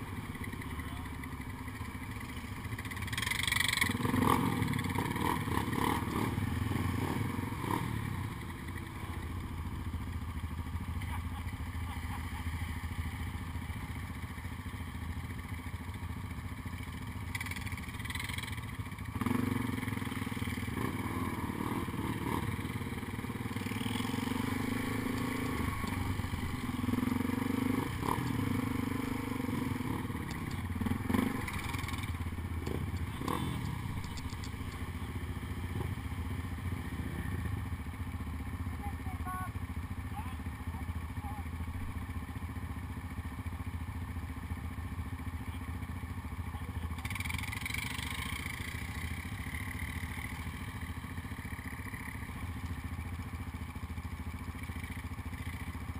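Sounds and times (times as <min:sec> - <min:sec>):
atv engine idling and revving: 0:00.0 - 0:55.9.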